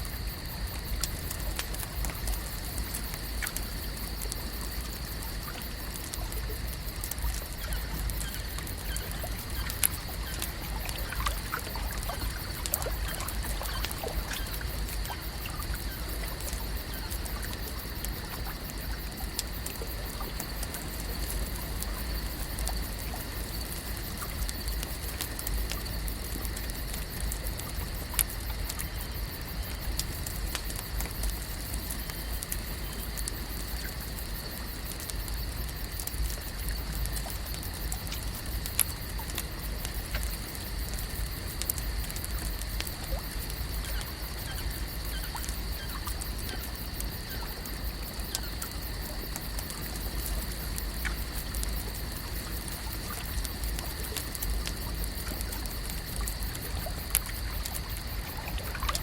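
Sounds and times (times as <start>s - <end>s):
water lapping and trickling: 0.1s - 59.0s.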